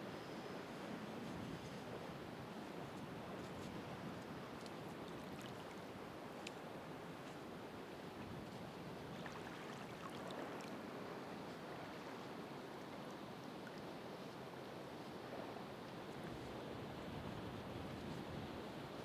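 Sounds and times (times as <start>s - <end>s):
ocean waves washing on shore: 2.0s - 19.0s.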